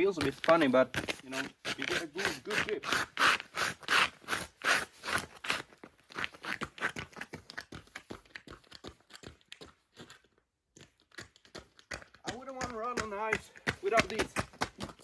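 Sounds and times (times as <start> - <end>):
footsteps crunching on ice: 0.0 - 15.0.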